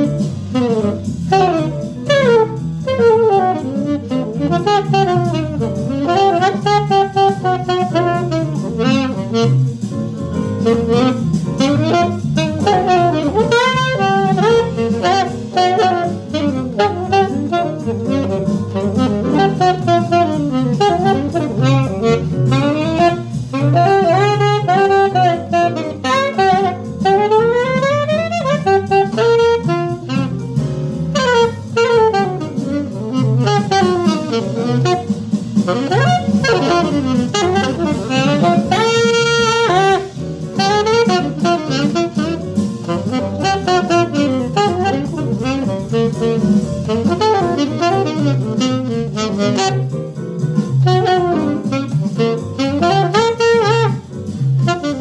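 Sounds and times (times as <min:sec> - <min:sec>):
alto saxophone playing bebop: 0:00.0 - 0:55.0.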